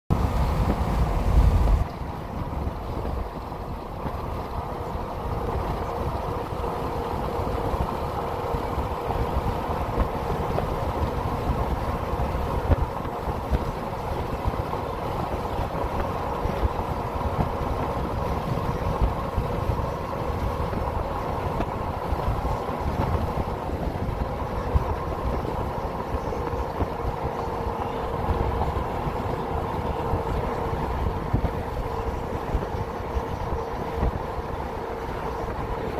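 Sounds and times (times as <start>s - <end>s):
vehicle interior road and engine noise: 0.1s - 35.9s.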